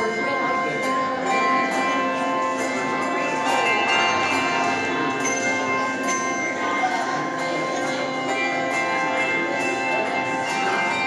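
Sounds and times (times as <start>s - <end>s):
handbell choir playing: 0.0s - 11.0s.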